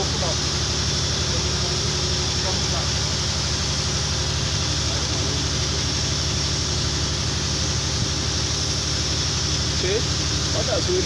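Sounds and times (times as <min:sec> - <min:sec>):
constant hiss: 0:00.0 - 0:11.0
low machine drone: 0:00.0 - 0:11.0.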